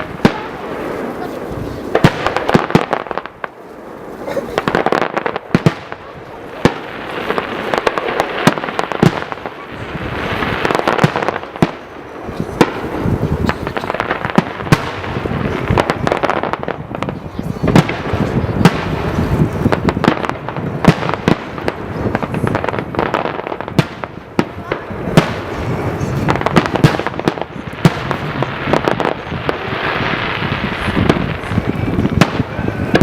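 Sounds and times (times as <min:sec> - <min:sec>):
fireworks bangs: 0:00.0 - 0:33.0
fireworks crackling: 0:00.0 - 0:33.0.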